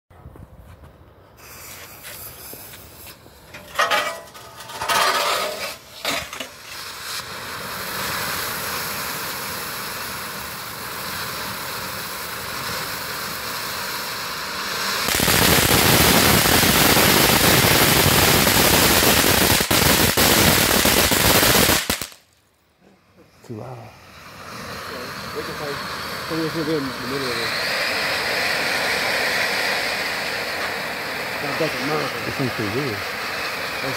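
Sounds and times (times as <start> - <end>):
firework hissing spray of sparks: 1.2 - 22.4, 23.4 - 33.9
firework sputters and pops: 1.3 - 22.4, 24.0 - 33.9.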